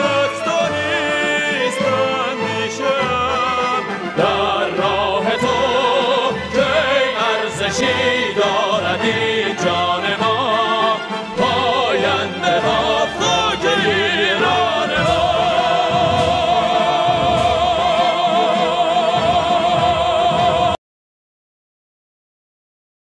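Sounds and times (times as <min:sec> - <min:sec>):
male operatic singing: 0:00.0 - 0:20.8
orchestra playing: 0:00.0 - 0:20.8.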